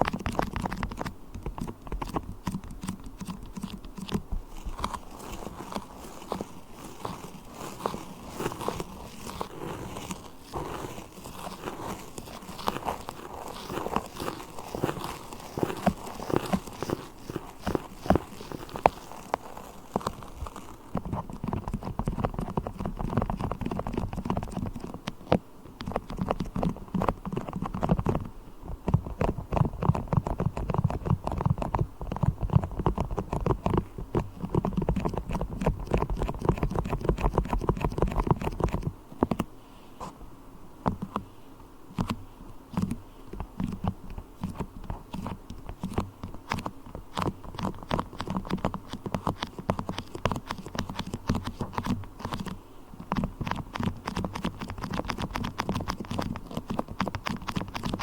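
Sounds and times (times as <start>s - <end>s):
sticky beeswax crackling: 0.0s - 40.2s, 41.9s - 58.0s.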